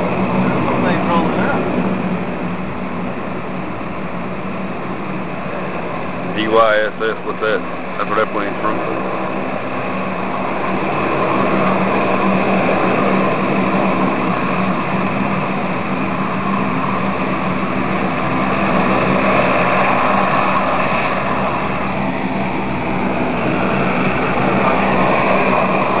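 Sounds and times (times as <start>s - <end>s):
loud engine hum: 0.0s - 26.0s.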